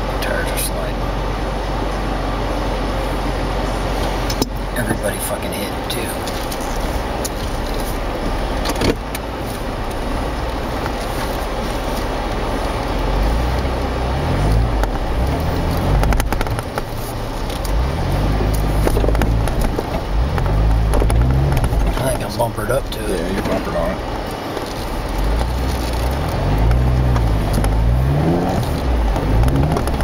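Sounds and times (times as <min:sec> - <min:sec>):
car engine revving: 0:00.0 - 0:30.0
tyres in snow: 0:02.0 - 0:30.0.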